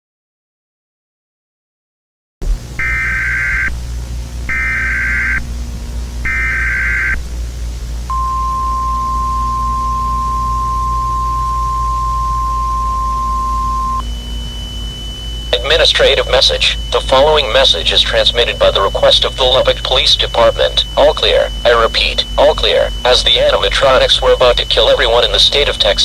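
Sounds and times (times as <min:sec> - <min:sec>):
low hum: 0:02.4 - 0:26.0
screeching data bursts: 0:02.8 - 0:26.0
steady attention tone: 0:02.8 - 0:26.0.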